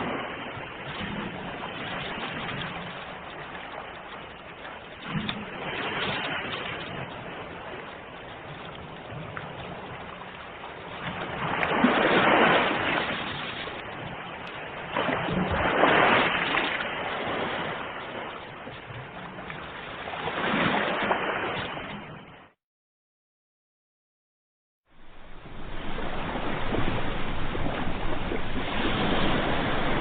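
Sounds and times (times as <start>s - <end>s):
sea waves breaking on shore: 0.0s - 22.6s, 24.9s - 30.0s.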